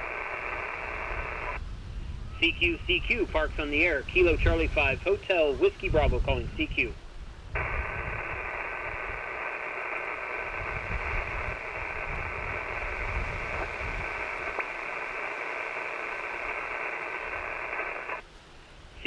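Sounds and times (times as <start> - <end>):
radio static hiss: 0.0 - 1.6, 2.3 - 18.3.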